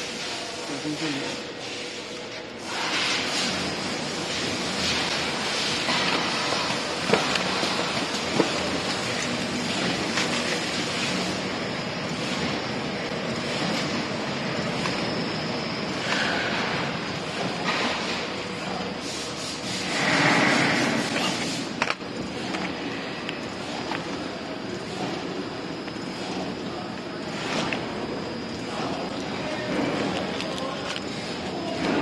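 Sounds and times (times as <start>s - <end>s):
cartoning machine clatter and whirr: 0.0s - 32.0s.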